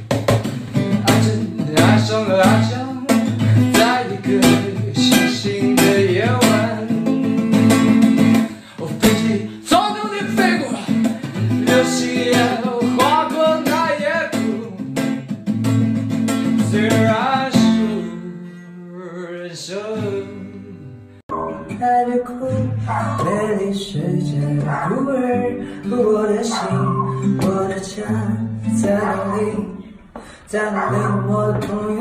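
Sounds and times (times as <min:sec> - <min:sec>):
strummed acoustic guitar: 0:00.0 - 0:32.0
man singing: 0:00.7 - 0:15.4, 0:16.4 - 0:32.0.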